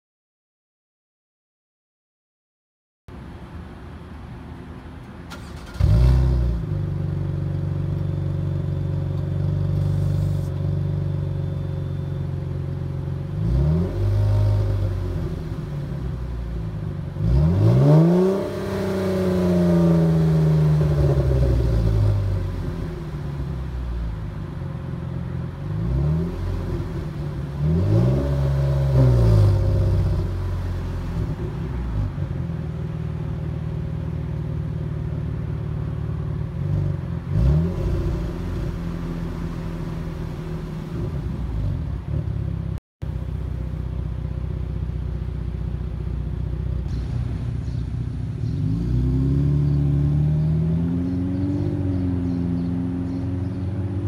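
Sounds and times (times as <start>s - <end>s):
car engine idling and revving: 3.1s - 54.0s.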